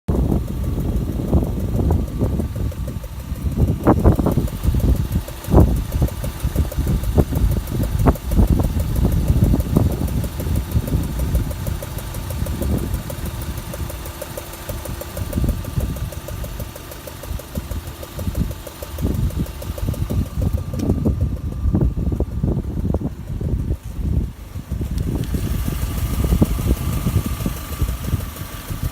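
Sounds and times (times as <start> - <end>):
car engine idling with ticking: 0.1 - 28.9.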